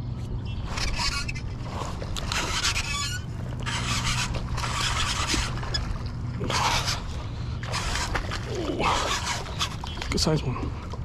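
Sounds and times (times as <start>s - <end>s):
fishing reel whirring: 0.6s - 10.0s
fish splashing: 0.6s - 10.1s.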